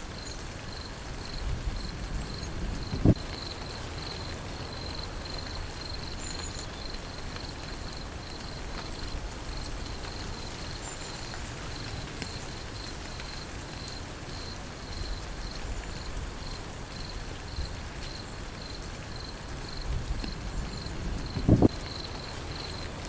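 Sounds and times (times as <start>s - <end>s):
rain falling: 0.0s - 23.0s
insect chirping: 0.2s - 22.9s.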